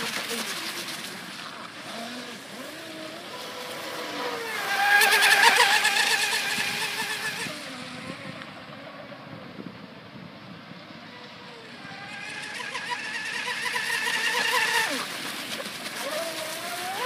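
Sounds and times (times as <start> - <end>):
electric boat motor whine: 0.0 - 10.1, 10.9 - 17.0.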